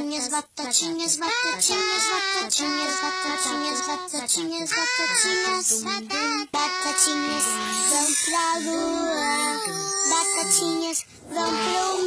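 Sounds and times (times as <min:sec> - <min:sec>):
children singing: 0:01.2 - 0:12.0.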